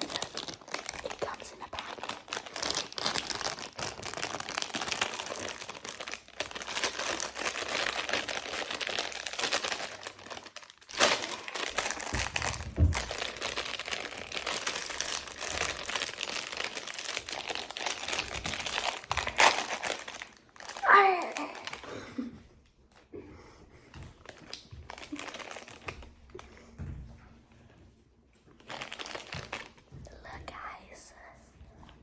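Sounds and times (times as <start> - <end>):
plastic packaging crinkling: 0.0 - 22.2, 24.2 - 26.4, 28.5 - 29.9.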